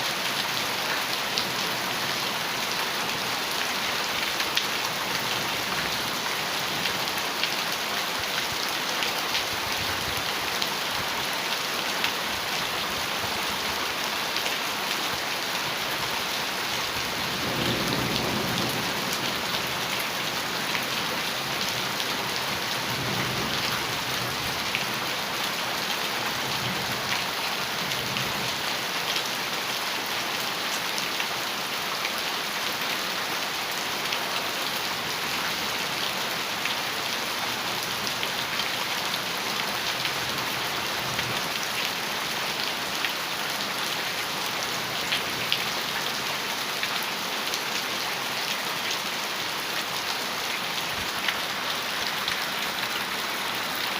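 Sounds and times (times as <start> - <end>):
heavy rain on a metal roof: 0.0 - 53.9.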